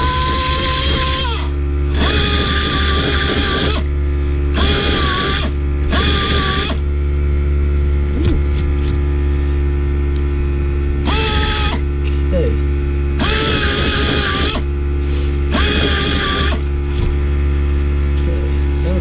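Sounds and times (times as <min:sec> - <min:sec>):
rotary tire buffer grinding: 0:00.0 - 0:19.0
steady low hum: 0:00.0 - 0:19.0.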